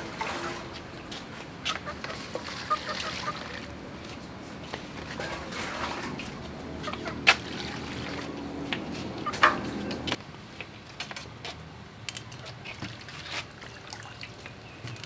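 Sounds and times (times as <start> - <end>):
water sloshing: 0.0 - 10.2, 12.5 - 15.0.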